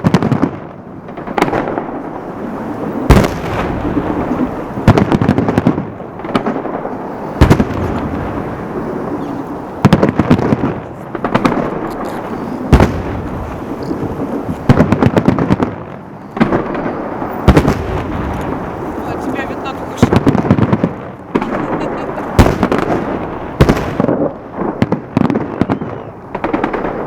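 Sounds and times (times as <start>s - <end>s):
fireworks bangs: 0.0s - 27.0s
rolling rumble: 1.0s - 27.0s.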